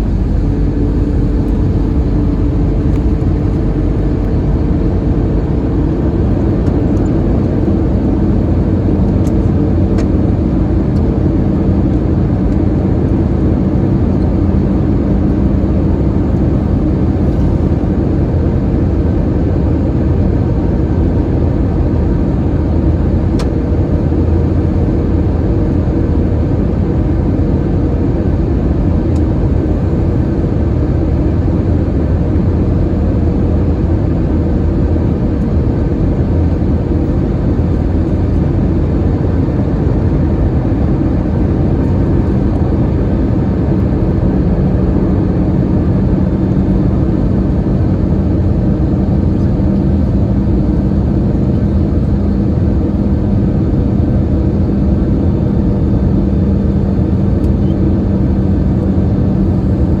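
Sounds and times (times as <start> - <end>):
airplane cabin drone: 0.0 - 60.0
low hum: 0.0 - 60.0.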